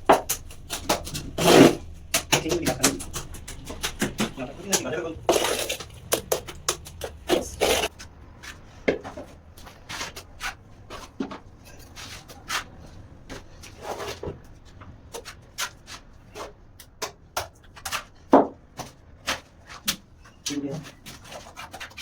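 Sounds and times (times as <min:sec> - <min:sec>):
tools scraping on tiles: 0:00.0 - 0:22.0.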